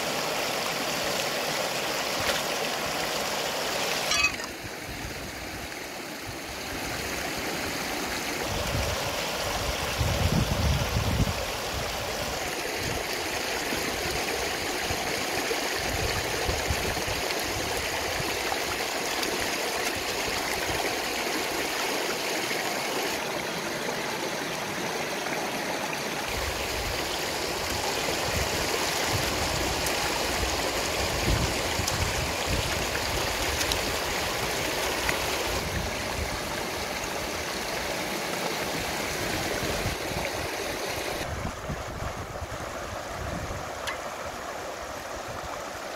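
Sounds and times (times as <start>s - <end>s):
stream running over rocks: 0.0s - 45.9s.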